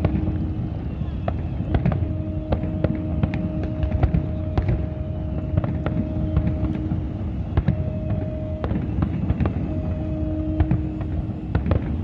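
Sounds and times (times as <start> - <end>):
fireworks bangs and pops: 0.0 - 12.0
low rumble of bursting shells: 0.0 - 12.0.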